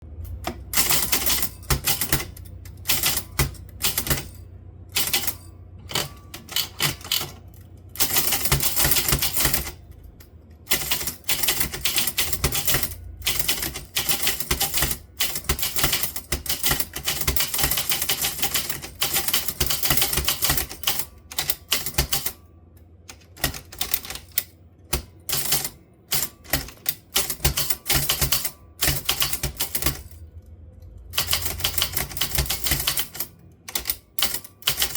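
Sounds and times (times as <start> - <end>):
typewriter keystrokes: 0.3 - 4.4, 5.0 - 22.4, 23.1 - 30.2, 31.1 - 34.9.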